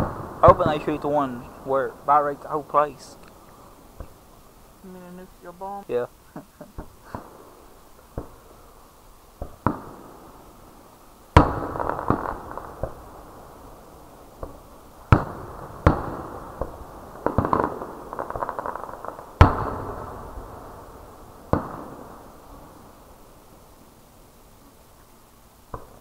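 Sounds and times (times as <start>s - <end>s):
fireworks booming: 0.0s - 23.8s, 25.6s - 26.0s
fireworks crackling: 0.0s - 26.0s.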